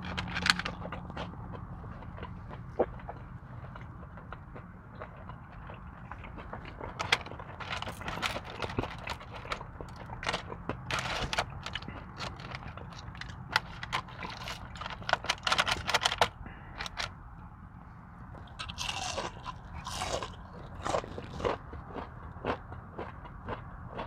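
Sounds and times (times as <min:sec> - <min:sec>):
wet chewing: 0:00.0 - 0:17.1, 0:18.4 - 0:24.0
crunching of food: 0:00.0 - 0:24.0.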